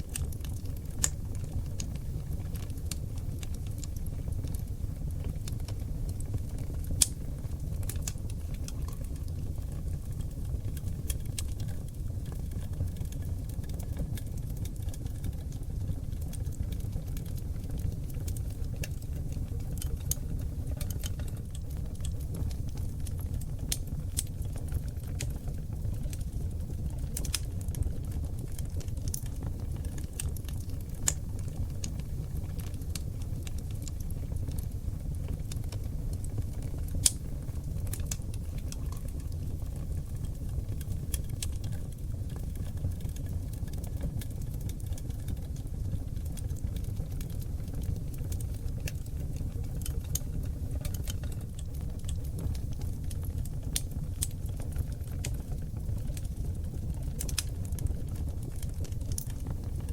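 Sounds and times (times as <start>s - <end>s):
fire rumbling in fireplace: 0.0s - 59.9s
wood crackling and popping: 0.0s - 59.9s.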